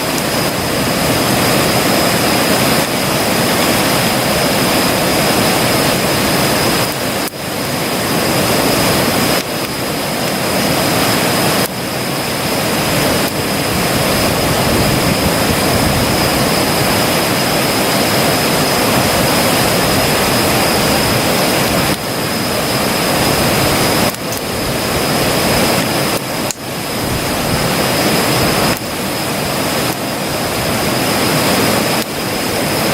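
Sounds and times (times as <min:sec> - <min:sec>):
campfire crackling: 0:00.0 - 0:32.9.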